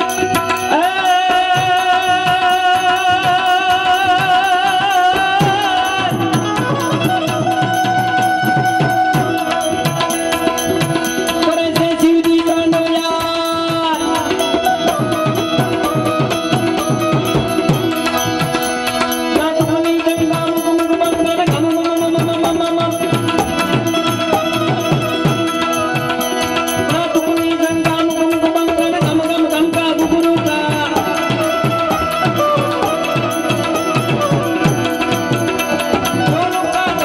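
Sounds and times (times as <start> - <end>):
harmonium sustained notes: 0.0 - 37.0
tabla playing quick rhythm: 0.0 - 37.0.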